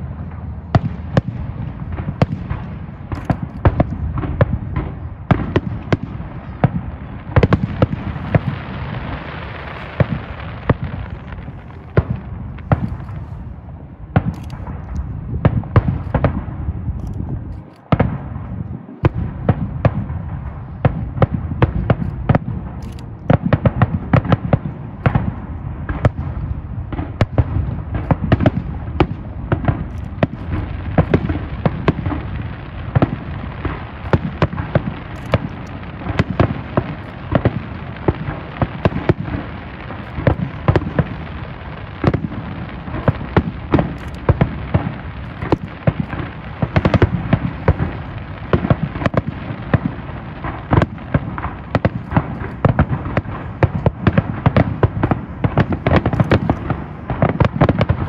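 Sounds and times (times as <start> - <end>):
crackling hiss: 0.0 - 58.0
firework shells bursting: 0.7 - 26.2, 26.8 - 58.0.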